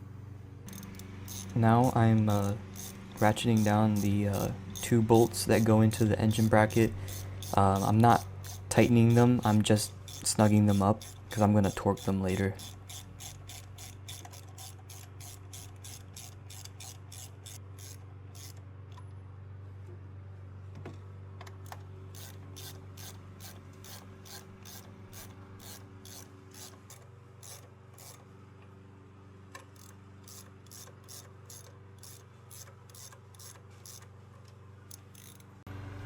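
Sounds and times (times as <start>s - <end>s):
socket ratchet clicking: 0.7s - 5.7s, 6.4s - 18.6s, 21.7s - 28.2s, 29.6s - 34.1s, 34.9s - 35.6s.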